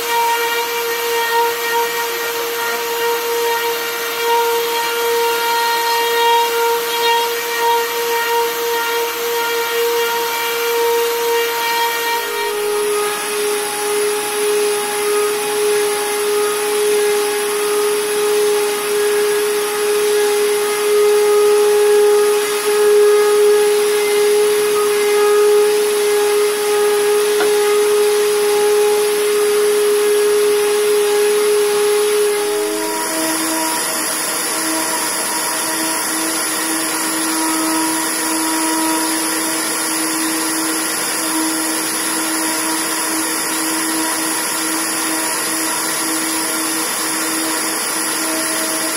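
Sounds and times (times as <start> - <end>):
orbital sander whining hum: 0.0 - 48.9.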